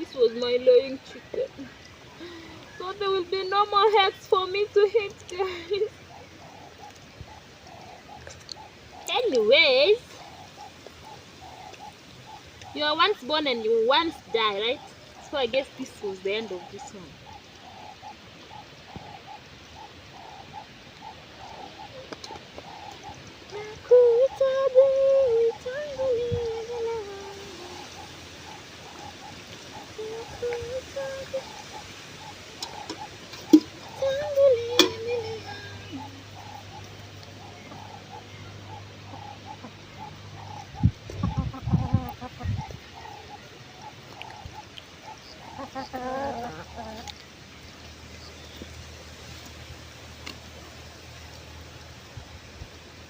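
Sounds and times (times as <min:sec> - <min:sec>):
bird cooing: 0:00.0 - 0:47.3
chickens clucking: 0:00.0 - 0:53.0.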